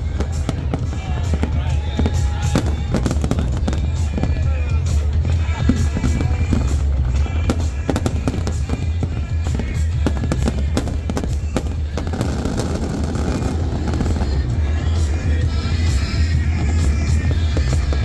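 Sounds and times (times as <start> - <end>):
fireworks popping and crackling: 0.0 - 18.0
music with low bass: 0.0 - 18.0.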